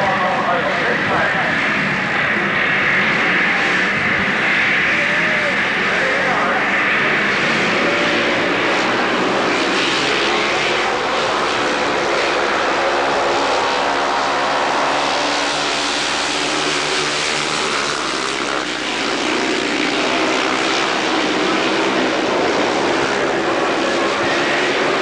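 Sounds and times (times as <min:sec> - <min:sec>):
motorcycles racing: 0:00.0 - 0:25.0.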